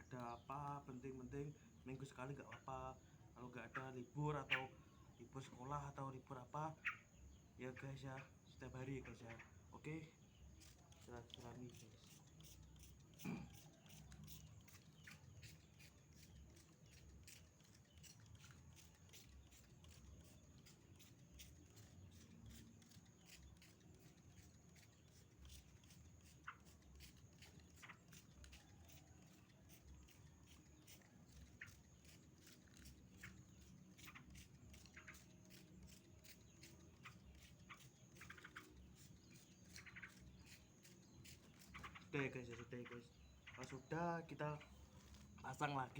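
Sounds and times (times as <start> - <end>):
faint bird chirps: 0.0 - 45.9.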